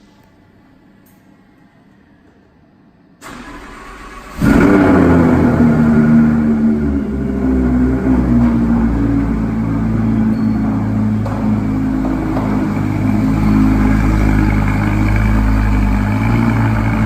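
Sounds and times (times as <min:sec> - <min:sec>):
car engine flaring and idling: 0:03.2 - 0:17.0.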